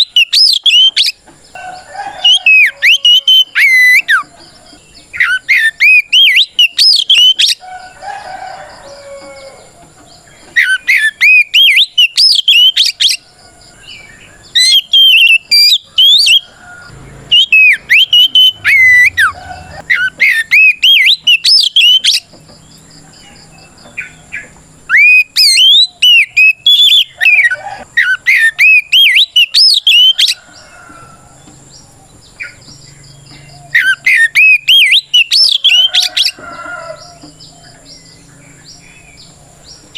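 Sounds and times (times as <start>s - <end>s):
bird singing whistled notes: 0.0s - 1.6s, 2.2s - 7.6s, 10.3s - 16.6s, 17.3s - 30.7s, 32.4s - 39.9s.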